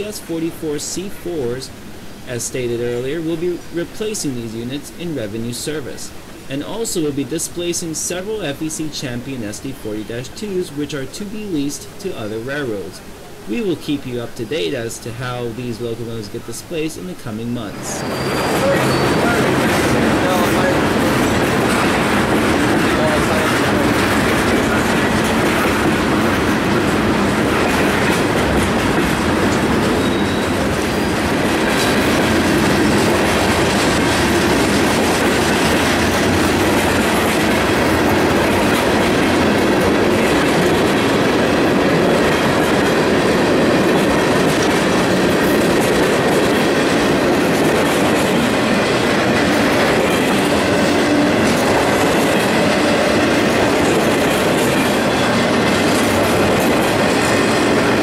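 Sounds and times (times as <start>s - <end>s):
freight train rolling past: 0.0s - 58.0s
wheels clacking on rails: 0.0s - 58.0s.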